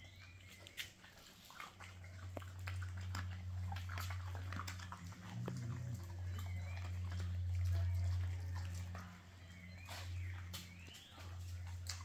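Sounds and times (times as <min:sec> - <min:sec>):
dogs crunching dry food: 0:00.1 - 0:12.0
low hum: 0:01.5 - 0:12.0.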